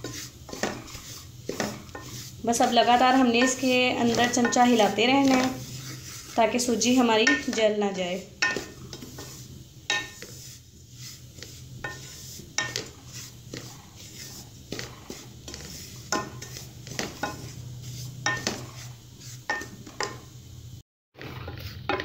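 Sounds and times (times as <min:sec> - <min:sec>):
wooden spoon scraping a saucepan: 0:00.0 - 0:20.3, 0:21.2 - 0:22.0.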